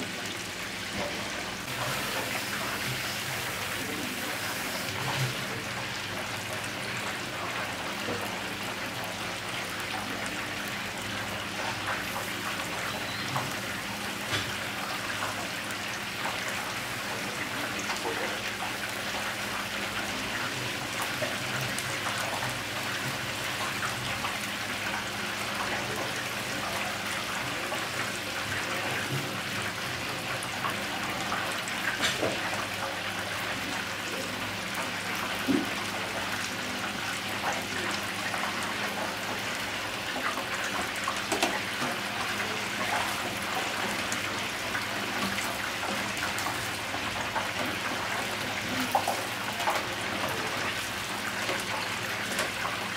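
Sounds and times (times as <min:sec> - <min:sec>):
oil sizzling in deep fryer: 0:00.0 - 0:52.9.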